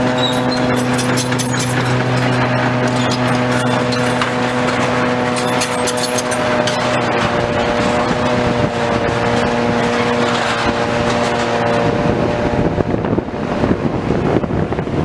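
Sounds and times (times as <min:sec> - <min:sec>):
rough clattering rumble: 0:00.0 - 0:14.3
demolition machinery engine hum: 0:00.0 - 0:15.0.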